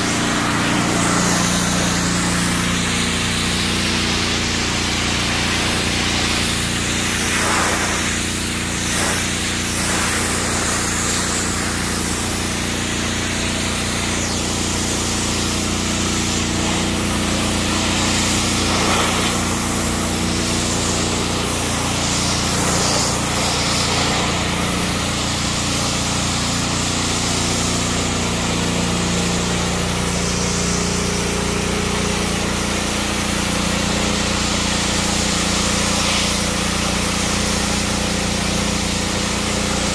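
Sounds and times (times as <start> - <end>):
pressure washer humming: 0.0 - 39.9
water jet hissing on metal: 0.0 - 39.9.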